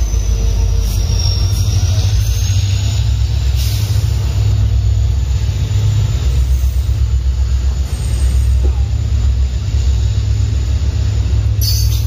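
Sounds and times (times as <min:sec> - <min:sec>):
train coaches rumbling past: 0:00.0 - 0:12.0.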